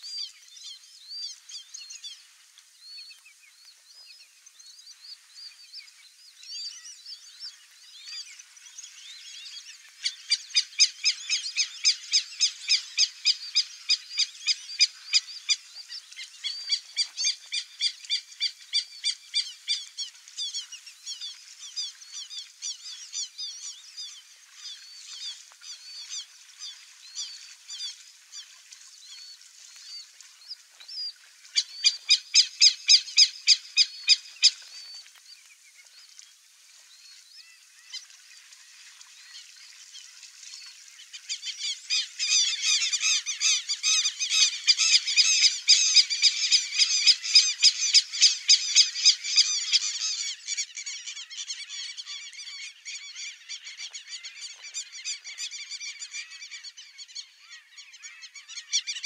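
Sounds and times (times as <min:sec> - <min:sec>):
birds chirping: 0:03.0 - 0:36.2, 0:39.2 - 0:59.0.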